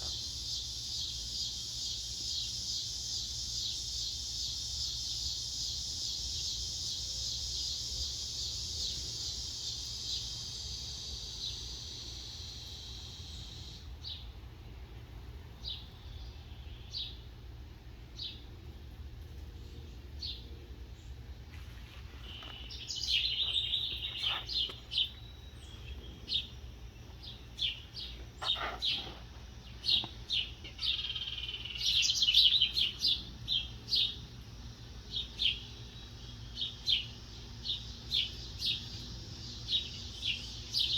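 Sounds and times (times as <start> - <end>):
high insect trill: 0.0 - 14.2, 21.9 - 40.9
small birds chirping: 0.0 - 40.9.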